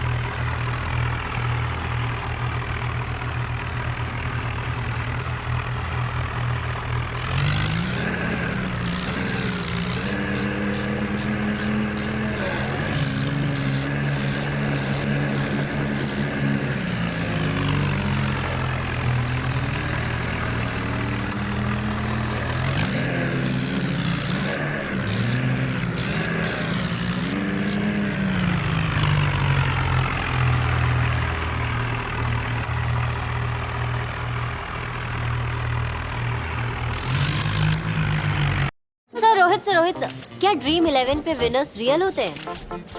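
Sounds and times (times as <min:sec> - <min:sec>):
tractor engine revving under load: 0:00.0 - 0:34.4, 0:35.2 - 0:38.7.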